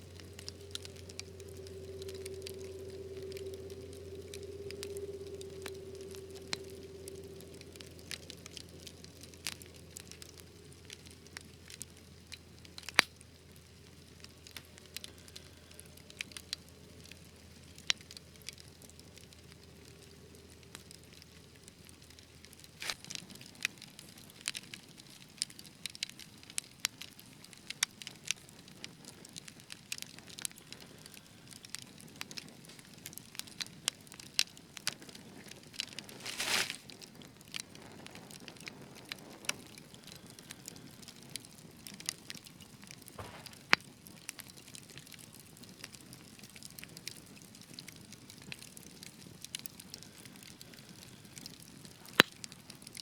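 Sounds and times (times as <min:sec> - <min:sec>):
fire hissing: 0:00.0 - 0:26.1, 0:28.0 - 0:53.0
wood fire crackling and popping: 0:00.0 - 0:53.0.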